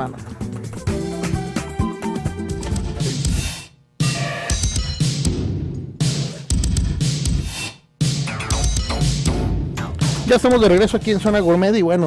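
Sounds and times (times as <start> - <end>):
electronic music with drum beat: 0.4 - 11.8.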